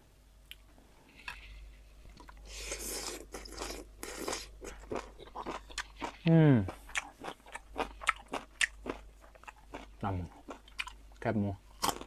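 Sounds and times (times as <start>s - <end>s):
person chewing and crunching food: 0.5s - 12.0s.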